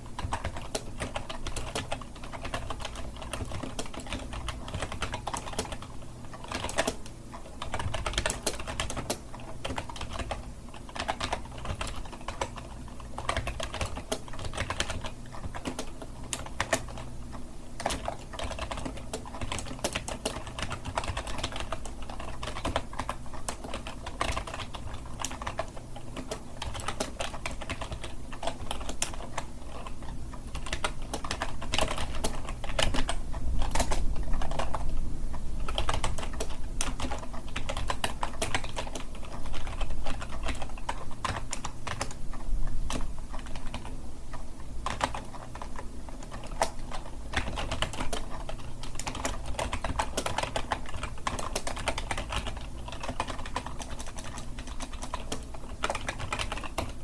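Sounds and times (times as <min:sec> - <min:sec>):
fast typing on keyboard: 0:00.0 - 0:57.0
low steady hum: 0:00.0 - 0:57.0.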